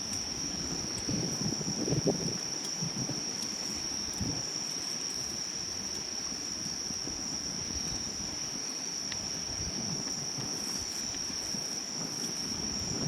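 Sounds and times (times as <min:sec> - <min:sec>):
campfire crackling: 0:00.0 - 0:13.0
crickets trilling: 0:00.0 - 0:13.0.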